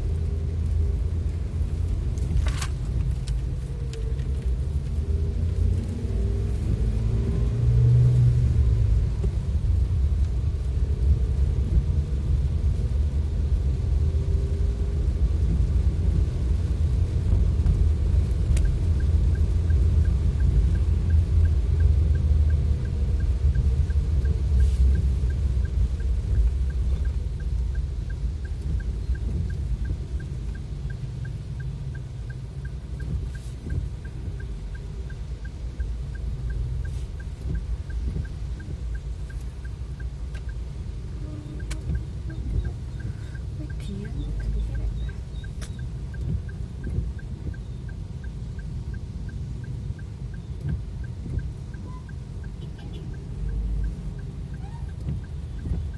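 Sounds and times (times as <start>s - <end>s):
vehicle driving in heavy rain: 0.0s - 55.9s
light regular ticking: 8.6s - 55.9s.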